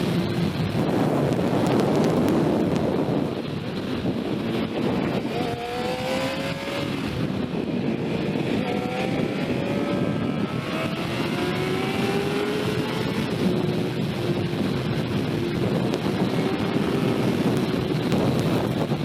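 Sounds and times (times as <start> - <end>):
motorcycle engine accelerating: 0.0 - 19.0
wind rush on microphone: 0.0 - 19.0.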